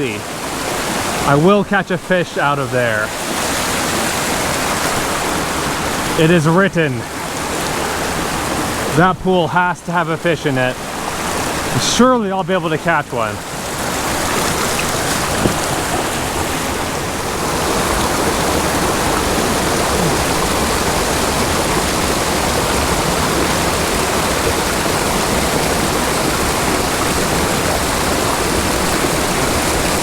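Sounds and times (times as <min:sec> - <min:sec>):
creek water running over rocks: 0:00.0 - 0:30.0.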